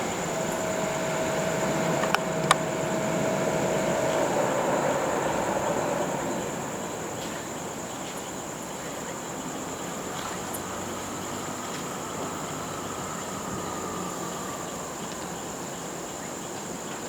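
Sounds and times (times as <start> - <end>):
distant jet engine roar: 0.0 - 16.6
high insect trill: 0.0 - 17.0.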